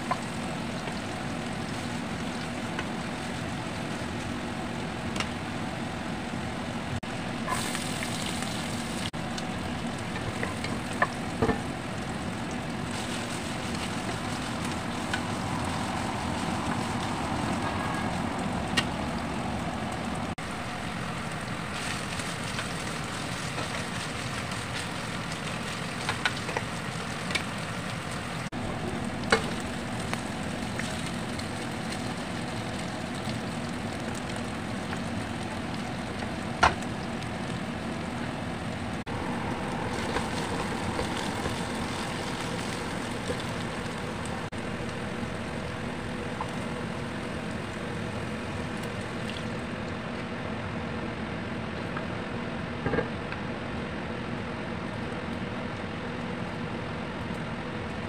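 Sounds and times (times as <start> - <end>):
food sizzling in oil: 0.0 - 5.8, 7.0 - 38.3, 38.9 - 49.8.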